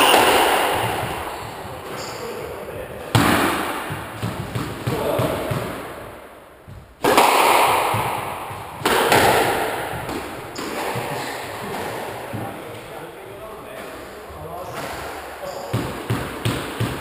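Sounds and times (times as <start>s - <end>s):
squash ball hits echoing: 0.0s - 13.0s, 13.7s - 17.0s.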